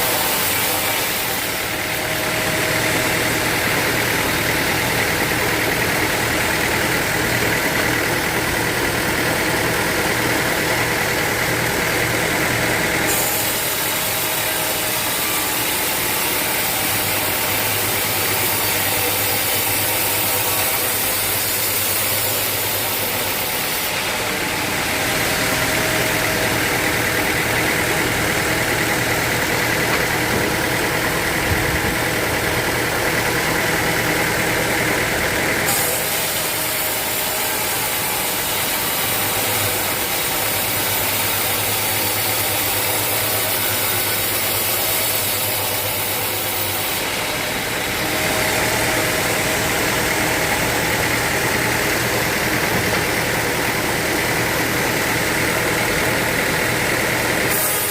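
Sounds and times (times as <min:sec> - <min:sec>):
sawmill machinery drone: 0:00.0 - 0:57.9.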